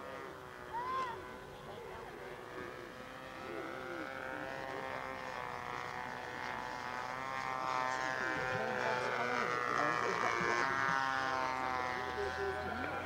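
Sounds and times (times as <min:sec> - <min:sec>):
model aircraft engine droning: 0:00.0 - 0:13.0.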